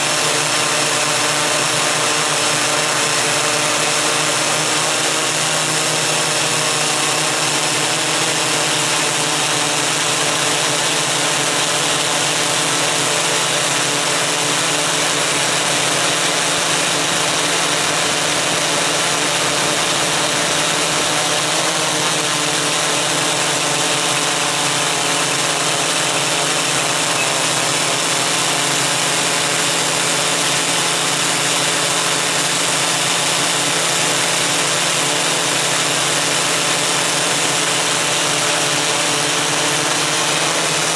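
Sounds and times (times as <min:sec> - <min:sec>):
multicopter motors humming: 0:00.0 - 0:40.9.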